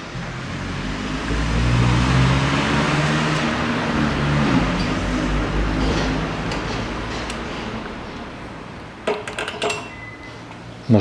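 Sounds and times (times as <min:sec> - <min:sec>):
vehicle driving past: 0:00.0 - 0:09.0.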